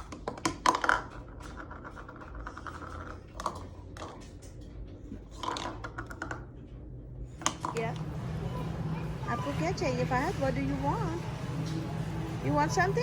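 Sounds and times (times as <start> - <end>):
low steady hum: 2.6 - 13.0.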